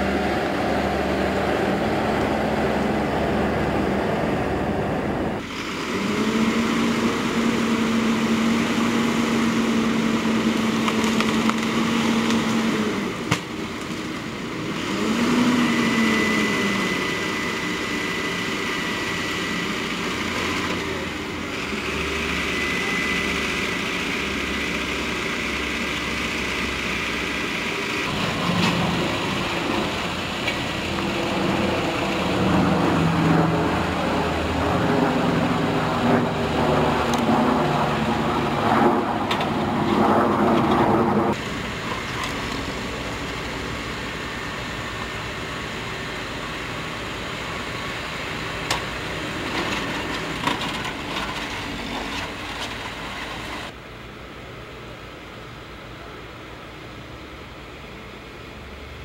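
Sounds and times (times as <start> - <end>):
engines humming: 0.0 - 59.0.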